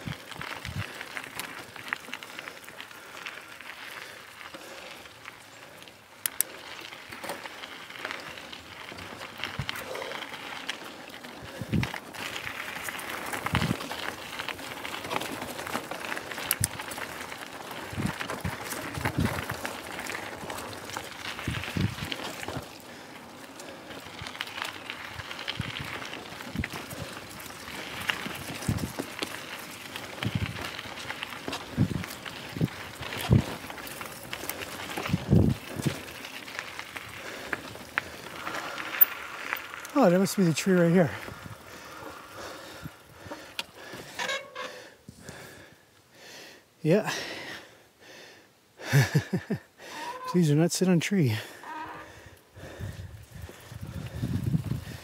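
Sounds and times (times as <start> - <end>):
bike rattling and clicking: 0.0 - 45.7, 51.4 - 55.0
bike tyre noise on dirt: 0.0 - 55.0.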